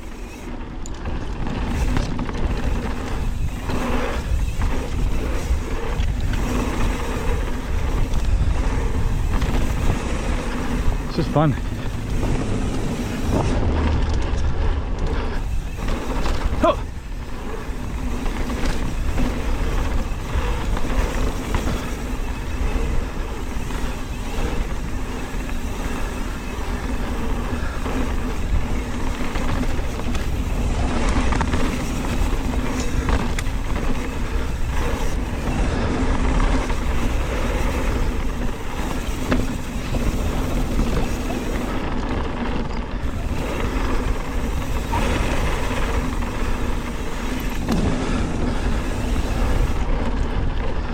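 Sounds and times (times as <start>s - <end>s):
bike tyres rumbling on dirt: 0.0s - 50.9s
wind rushing on microphone: 0.0s - 50.9s.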